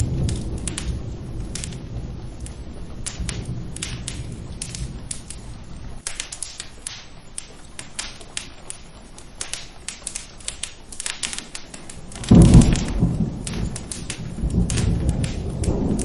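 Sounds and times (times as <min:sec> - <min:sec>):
rain: 0:00.0 - 0:16.0
thunder clap rumbling: 0:00.0 - 0:16.0
wood fire crackling: 0:00.0 - 0:16.0.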